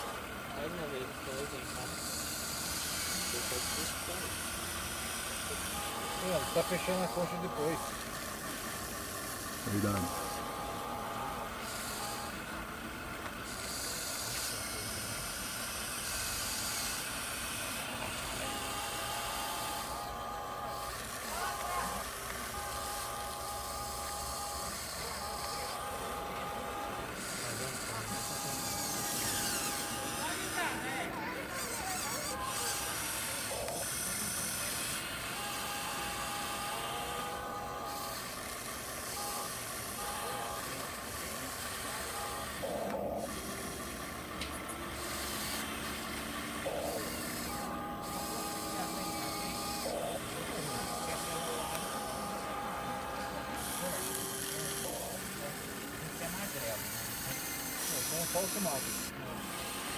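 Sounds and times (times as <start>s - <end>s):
faint motor whine: 0.0s - 59.9s
model trucks running on dirt: 0.0s - 59.9s.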